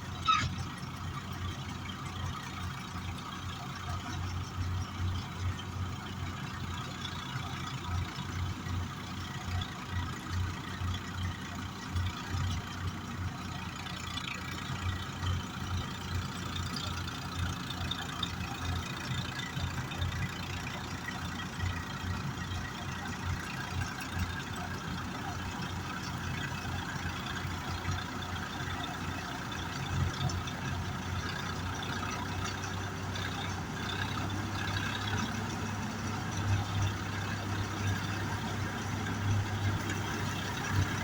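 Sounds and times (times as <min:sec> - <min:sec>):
tractor diesel engine throbbing: 0:00.0 - 0:41.0.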